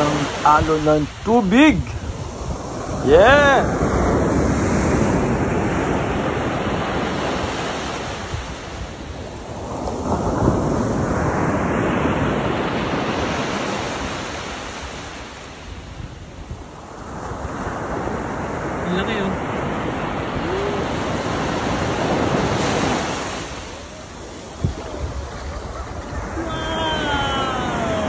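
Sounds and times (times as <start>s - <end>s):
sea waves breaking on beach: 0.0s - 28.0s.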